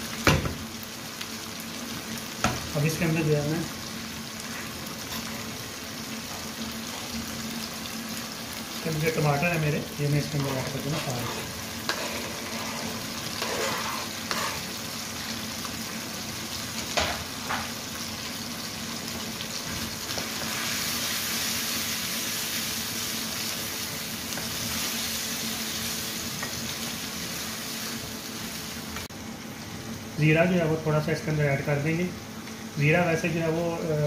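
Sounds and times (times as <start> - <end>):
chicken sizzling in hot oil: 0.0 - 34.0.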